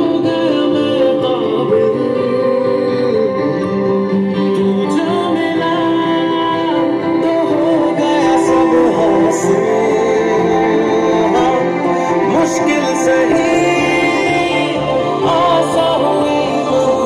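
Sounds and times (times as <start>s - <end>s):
song with singing from speakers: 0.0s - 17.0s.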